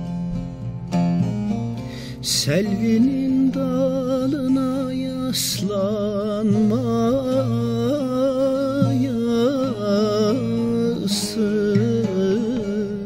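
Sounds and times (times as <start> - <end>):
long-necked lute folk melody: 0.0 - 13.0
man singing ornamented notes: 2.2 - 13.0.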